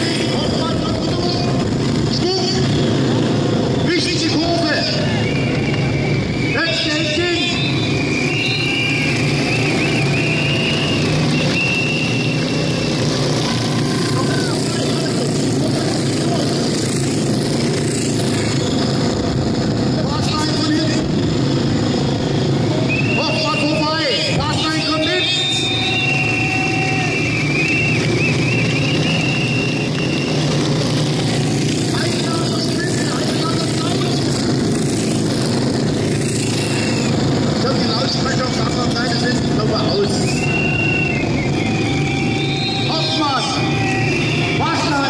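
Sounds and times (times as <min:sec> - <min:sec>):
motorcycle engines droning: 0:00.0 - 0:45.0.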